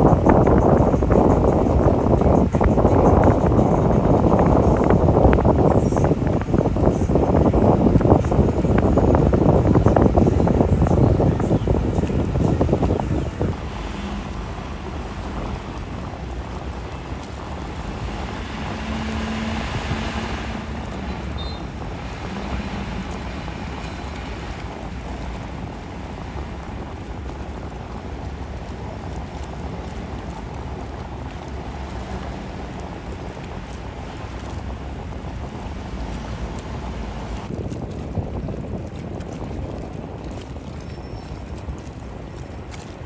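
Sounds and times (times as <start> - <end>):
boat engine low rumble: 0.0 - 43.0
water noise: 0.0 - 43.0
wind buffeting microphone: 0.0 - 43.0.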